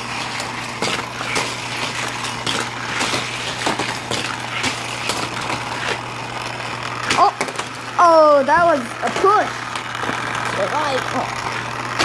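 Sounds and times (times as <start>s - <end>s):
toy cars rattling on plastic track: 0.0s - 12.0s
toy track booster hum: 0.0s - 12.0s.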